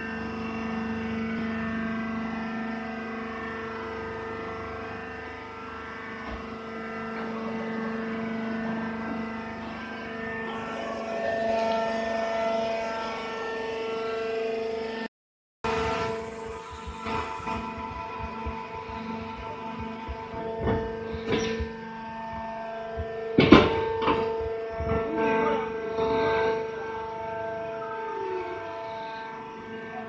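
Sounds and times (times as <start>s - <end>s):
hydraulic power unit drone: 0.0s - 30.0s
pitched mechanical whine: 0.0s - 30.0s.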